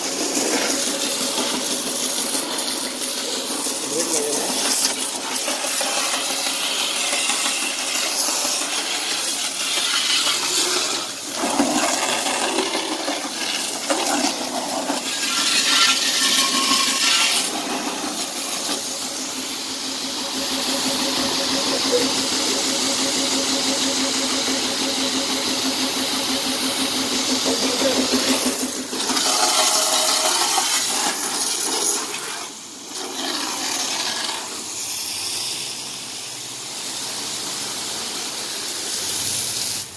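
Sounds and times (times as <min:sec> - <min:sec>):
high-pressure water jet hissing: 0:00.0 - 0:39.9
pressure washer hum: 0:00.0 - 0:39.9.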